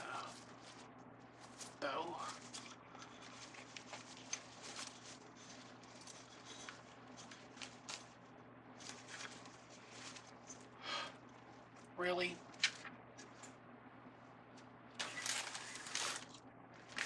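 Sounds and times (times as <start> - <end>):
ribbon rustling and crinkling: 0.0 - 13.6, 14.6 - 17.0
steady low hum: 0.0 - 17.0.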